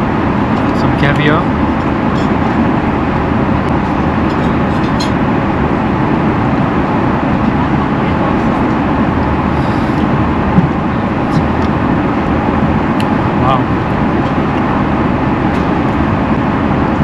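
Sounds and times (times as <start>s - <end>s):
airliner cabin rushing noise: 0.0s - 17.0s.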